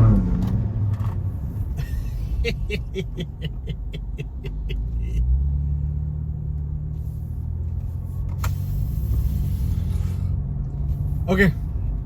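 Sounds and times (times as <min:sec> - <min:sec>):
engine low drone: 0:00.0 - 0:12.0.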